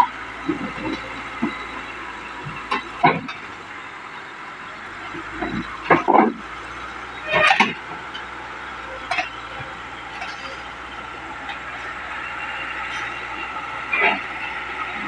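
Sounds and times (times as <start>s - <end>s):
excavator engine and hydraulic whine: 0.0s - 15.0s.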